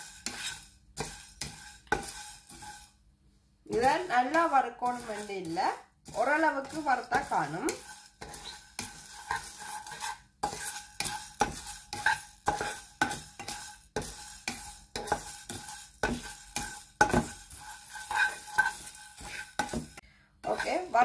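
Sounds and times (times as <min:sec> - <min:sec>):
spoon scraping seeds in a pan: 0:00.0 - 0:21.0.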